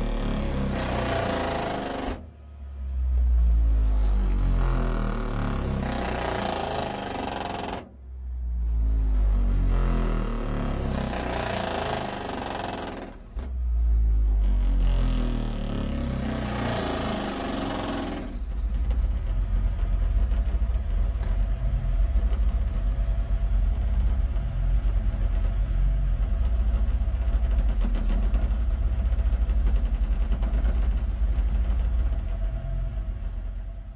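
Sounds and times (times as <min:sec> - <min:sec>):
car subwoofers playing deep bass: 0:00.0 - 0:33.9.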